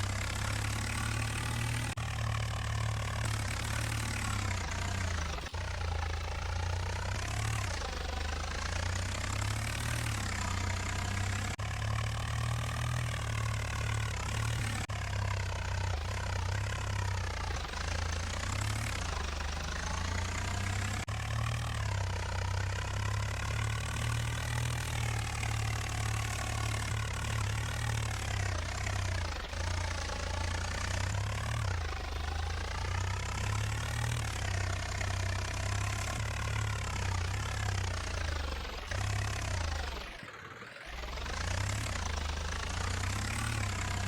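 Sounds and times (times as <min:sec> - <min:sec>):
tractor diesel engine rumbling: 0:00.0 - 0:40.2, 0:40.9 - 0:44.0.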